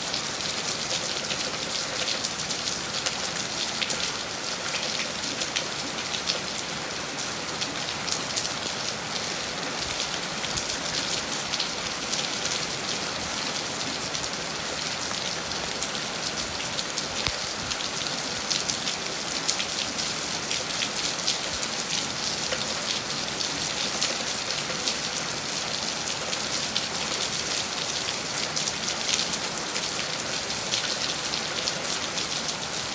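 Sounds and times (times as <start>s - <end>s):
rain hitting a surface: 0.0s - 32.9s.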